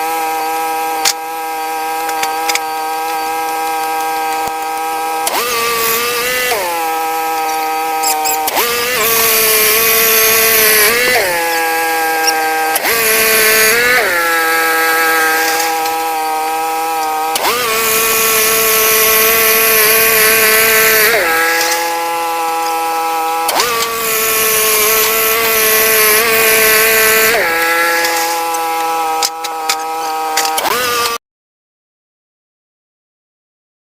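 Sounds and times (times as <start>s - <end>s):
sawmill engine running: 0.0s - 31.2s.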